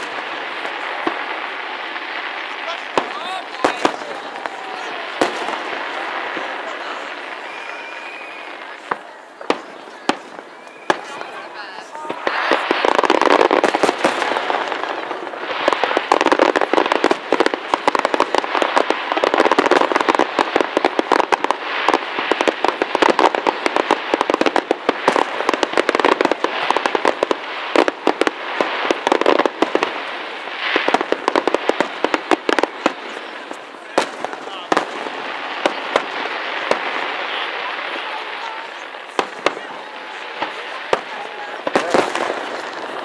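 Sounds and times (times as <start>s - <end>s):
fireworks bangs and crackle: 0.0s - 43.0s.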